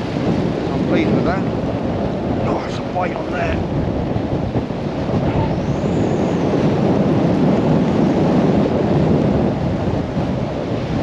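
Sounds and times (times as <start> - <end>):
heavy rain: 0.0 - 10.3
wind buffeting microphone: 0.0 - 11.0.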